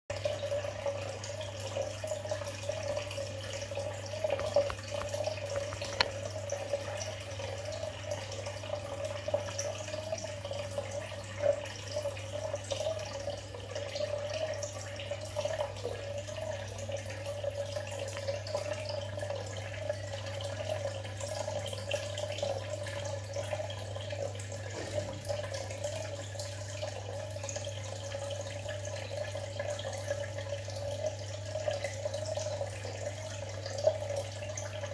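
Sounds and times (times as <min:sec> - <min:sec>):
aquarium water bubbling: 0:00.1 - 0:34.9.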